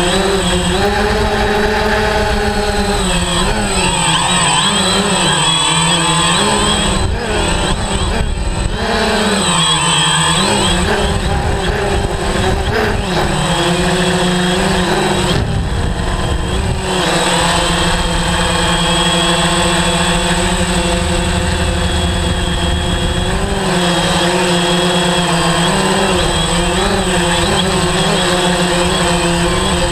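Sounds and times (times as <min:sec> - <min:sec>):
drone propellers buzzing: 0:00.0 - 0:29.9.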